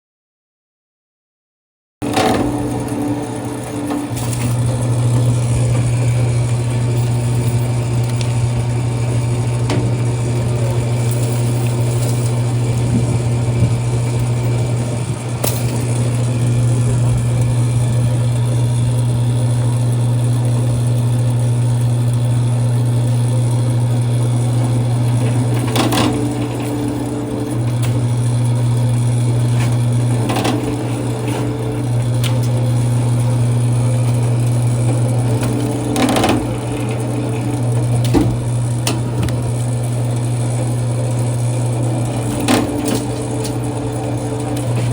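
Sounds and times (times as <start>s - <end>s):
cable-stripping machine humming: 2.0s - 44.9s.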